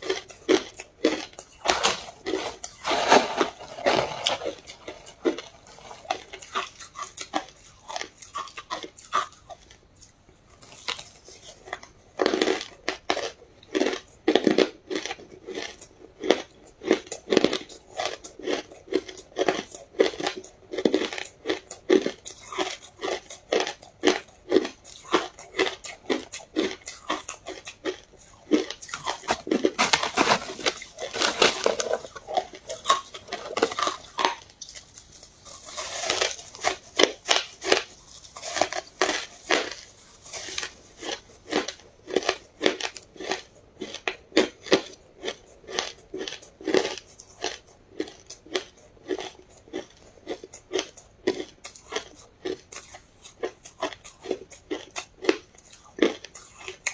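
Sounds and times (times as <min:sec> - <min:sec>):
ice crunching while chewed: 0:00.0 - 0:56.9.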